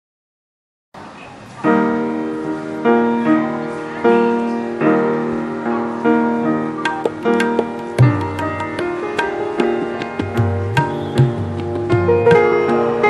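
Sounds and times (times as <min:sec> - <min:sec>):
keyboard chords ringing: 0:01.7 - 0:13.0.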